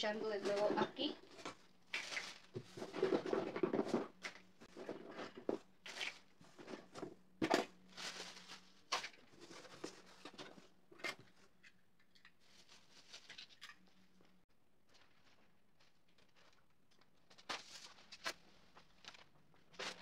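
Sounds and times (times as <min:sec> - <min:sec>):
plastic bag rustling: 0:00.0 - 0:10.7, 0:12.4 - 0:13.6, 0:14.7 - 0:20.0.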